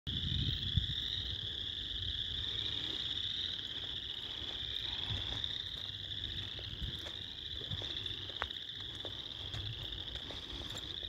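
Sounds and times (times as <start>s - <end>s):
frogs chorus trilling: 0.1s - 11.0s.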